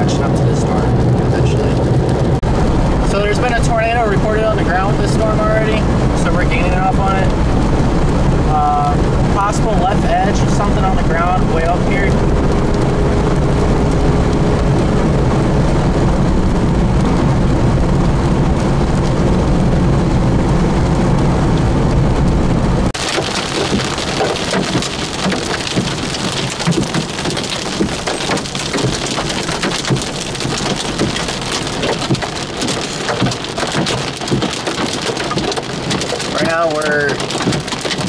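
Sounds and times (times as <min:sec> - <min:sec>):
car road and engine rumble: 0:00.0 - 0:38.0
heavy rain hitting: 0:00.0 - 0:38.0.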